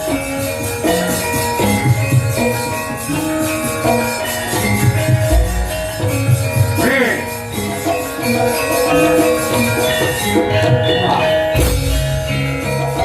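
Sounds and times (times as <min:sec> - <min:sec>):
gamelan ensemble playing: 0:00.0 - 0:13.0.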